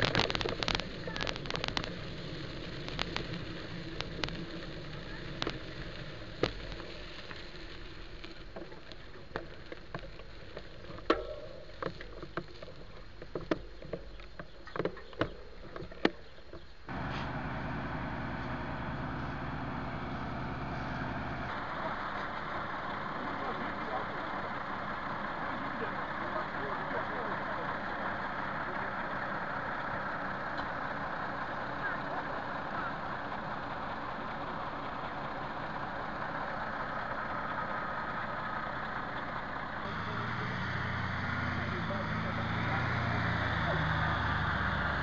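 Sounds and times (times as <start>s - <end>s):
fire engine humming: 0.0s - 11.0s, 16.9s - 45.0s
vehicle engine on dirt track: 0.0s - 45.0s.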